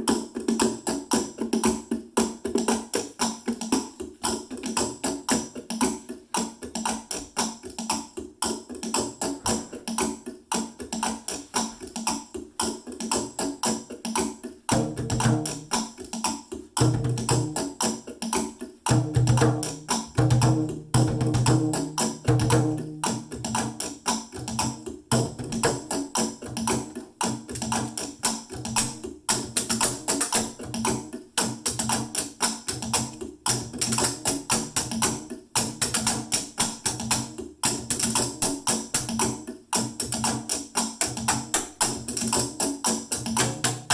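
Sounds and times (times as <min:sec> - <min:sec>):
percussion on household objects: 0:00.0 - 0:43.9.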